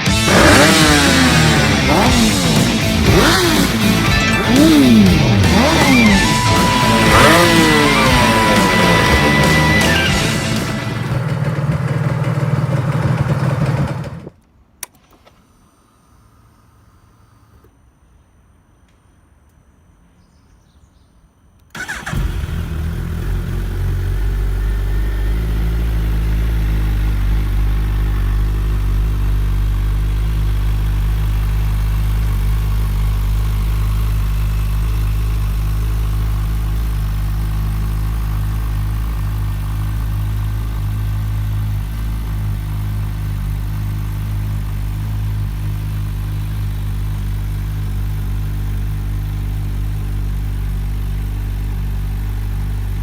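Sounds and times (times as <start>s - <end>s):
motorcycle engine starting and idling: 0.0s - 17.7s, 21.6s - 53.0s.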